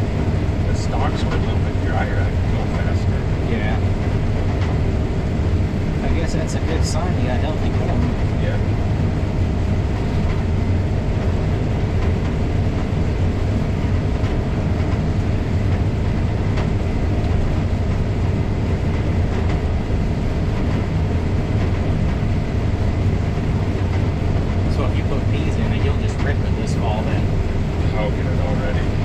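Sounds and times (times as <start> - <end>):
combine harvester engine drone: 0.0 - 29.0.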